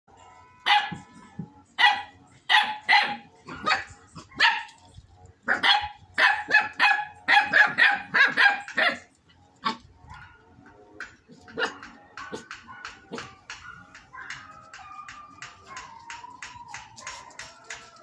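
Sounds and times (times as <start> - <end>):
small dogs barking: 0.6 - 18.0.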